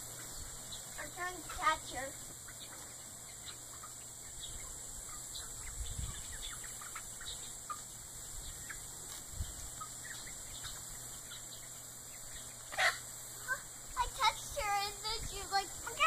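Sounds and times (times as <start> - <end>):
chicks peeping and squawking: 0.0 - 16.0.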